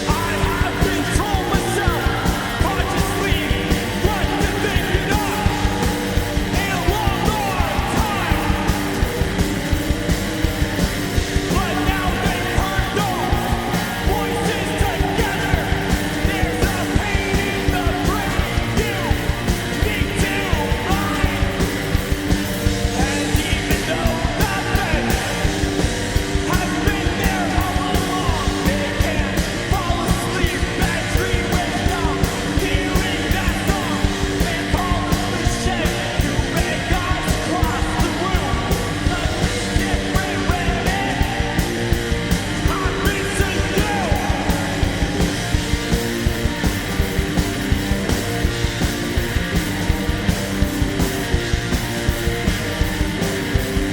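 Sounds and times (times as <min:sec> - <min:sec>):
person yelling singing: 0:00.0 - 0:46.7
distorted electric guitars: 0:00.0 - 0:53.9.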